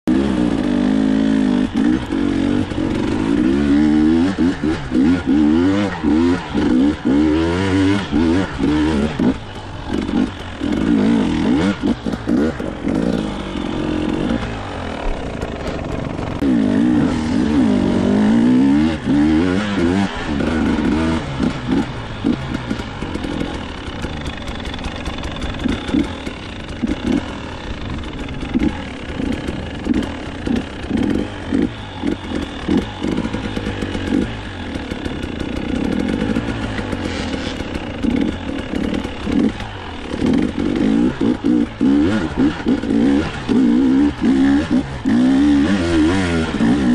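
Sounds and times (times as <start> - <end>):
dirt bike engine revving: 0.1 - 46.9.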